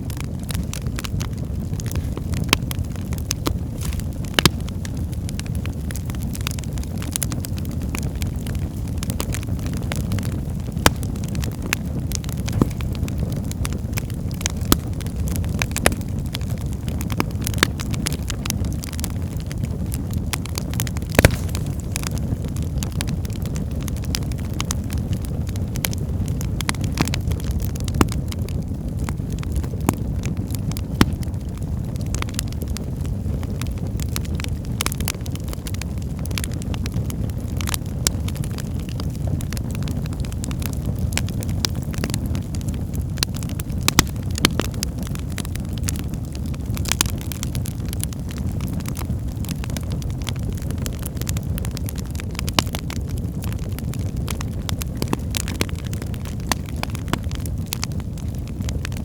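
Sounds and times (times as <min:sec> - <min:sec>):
sharp pops from fire: 0:00.0 - 0:59.0
wood fire crackling: 0:00.0 - 0:59.0.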